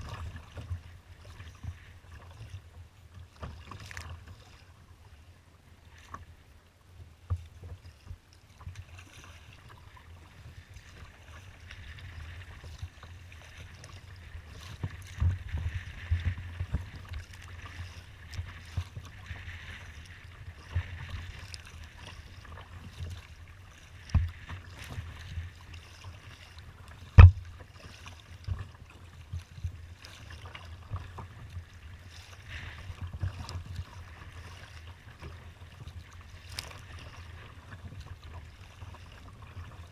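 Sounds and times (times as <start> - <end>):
water slapping against kayak hull: 0.0 - 4.7, 7.2 - 39.9.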